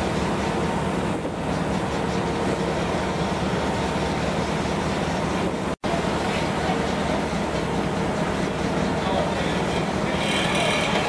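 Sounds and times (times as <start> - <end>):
ferry engines droning: 0.0 - 11.0
rush of wind and water: 0.0 - 11.0.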